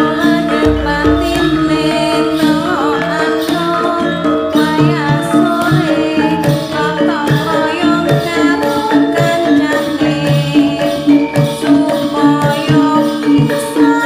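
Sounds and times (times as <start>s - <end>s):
melody over percussion beat: 0.0s - 14.0s.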